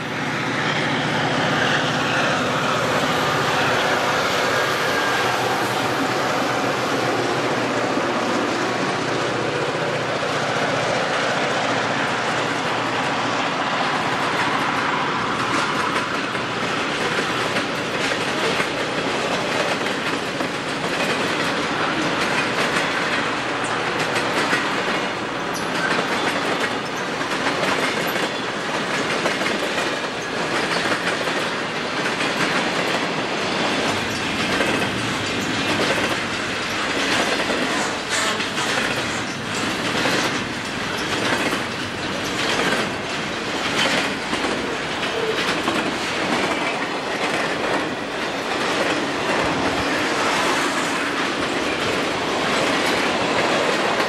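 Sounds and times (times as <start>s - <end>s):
wheels clacking over rail joints: 1.8s - 54.0s.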